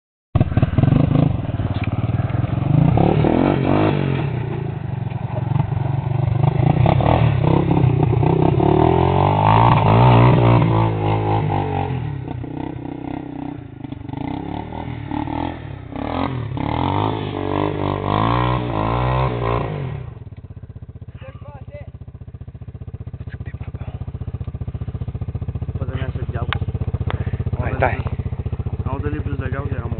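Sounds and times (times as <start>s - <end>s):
atv engine revving: 0.4s - 29.9s.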